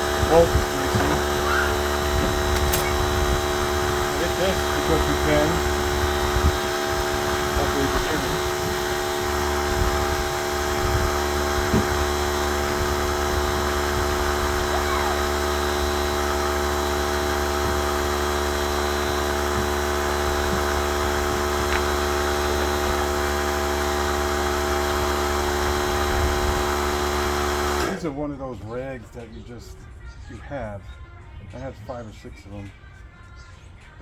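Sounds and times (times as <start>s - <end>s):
air compressor motor humming: 0.0s - 28.3s.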